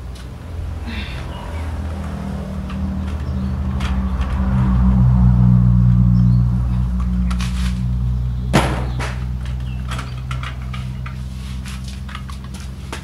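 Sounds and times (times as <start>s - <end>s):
engine humming low: 0.0s - 13.0s.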